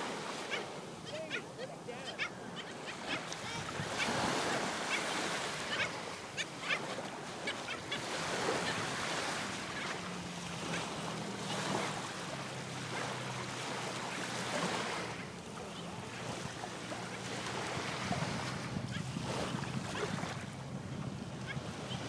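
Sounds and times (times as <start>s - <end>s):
surf breaking on sandy beach: 3.2s - 21.4s.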